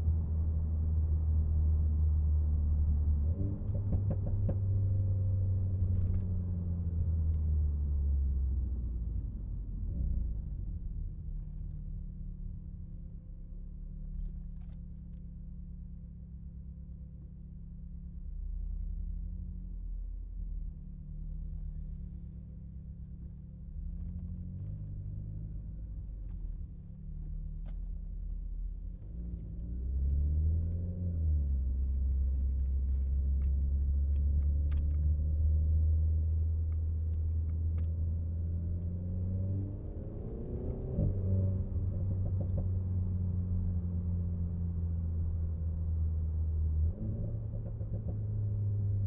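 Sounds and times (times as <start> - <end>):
car engine low rumble: 0.0 - 49.0.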